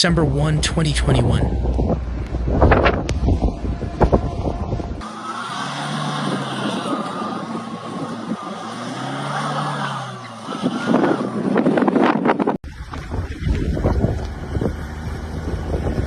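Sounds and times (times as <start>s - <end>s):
car engine revving: 0.7s - 16.0s.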